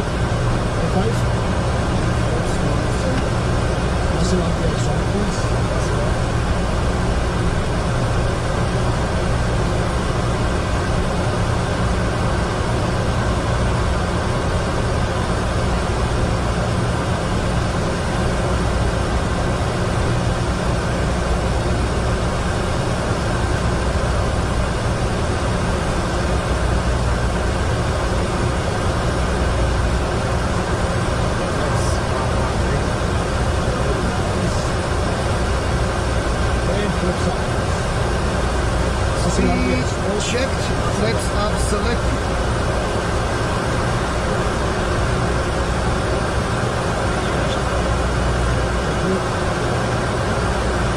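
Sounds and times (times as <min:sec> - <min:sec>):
low hum: 0:00.0 - 0:50.9.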